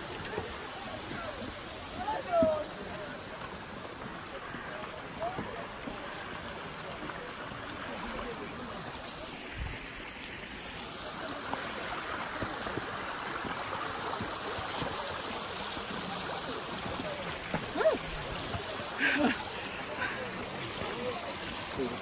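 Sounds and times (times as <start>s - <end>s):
stream running over rocks: 0.0s - 22.0s.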